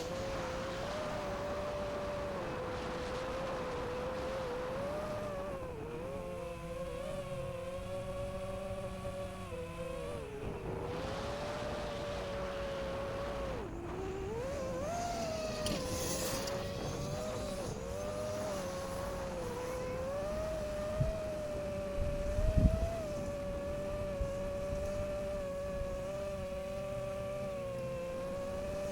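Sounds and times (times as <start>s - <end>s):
drone motors whining: 0.0s - 28.9s.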